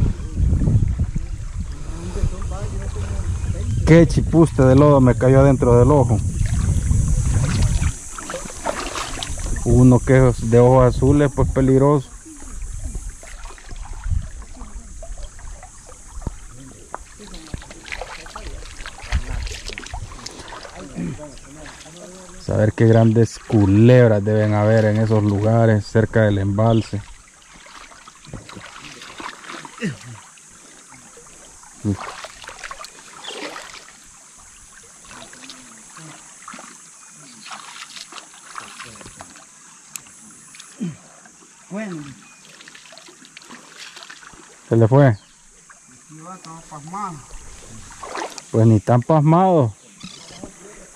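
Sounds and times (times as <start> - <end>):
shallow water sloshing: 5.8 - 48.7.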